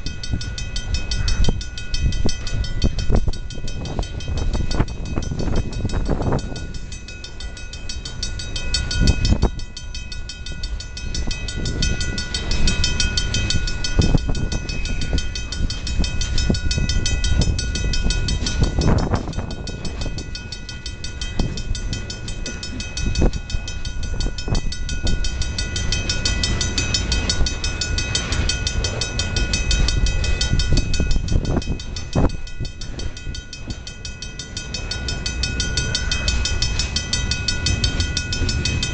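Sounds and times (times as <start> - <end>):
crossing bell ringing: 0.0 - 38.9
rumble of train wheels: 0.0 - 38.9.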